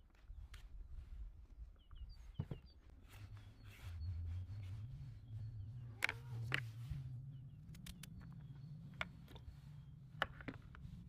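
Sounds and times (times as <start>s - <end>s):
low steady hum: 0.4s - 11.0s
small birds chirping: 1.6s - 11.0s.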